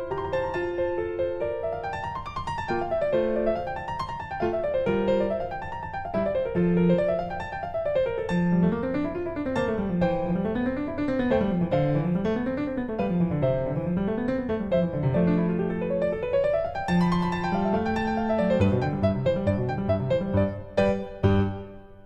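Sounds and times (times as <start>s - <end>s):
piano arpeggios: 0.0s - 22.0s.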